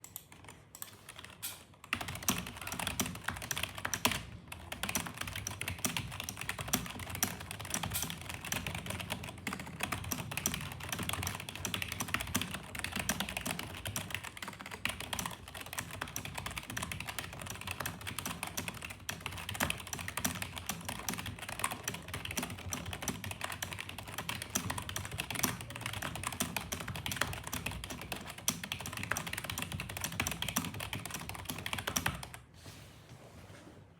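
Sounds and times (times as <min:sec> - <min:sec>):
fast keyboard typing: 0:00.0 - 0:32.4.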